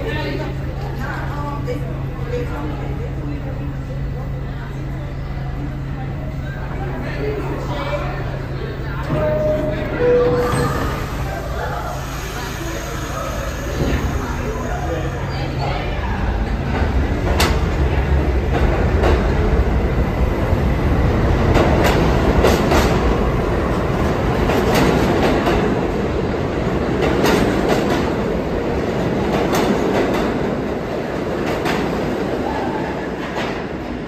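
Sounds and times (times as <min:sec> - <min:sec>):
subway train rumbling past: 0:00.0 - 0:34.0.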